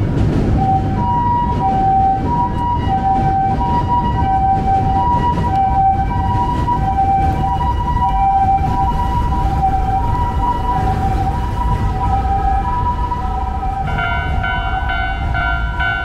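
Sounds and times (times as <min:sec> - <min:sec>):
low traffic rumble: 0:00.0 - 0:16.0
two-tone emergency siren: 0:00.0 - 0:16.0.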